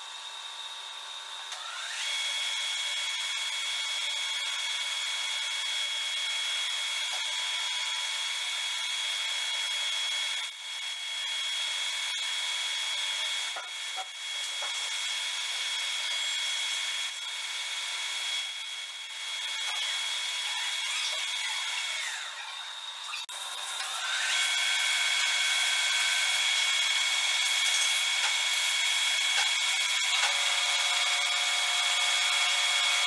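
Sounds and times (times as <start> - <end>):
metal lathe whining: 0.3 - 33.0.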